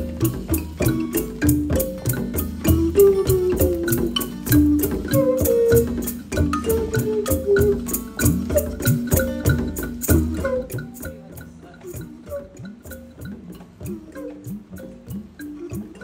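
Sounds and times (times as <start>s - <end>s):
pitch-bending drum rhythm: 0.0s - 16.0s
short pitched percussion notes: 0.0s - 16.0s.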